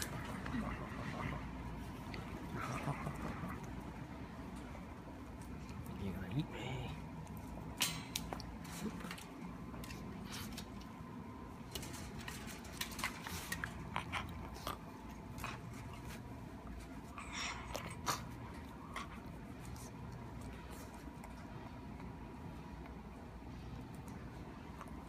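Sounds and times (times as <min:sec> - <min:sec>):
puppy gnawing mouth noises: 0:00.0 - 0:25.0.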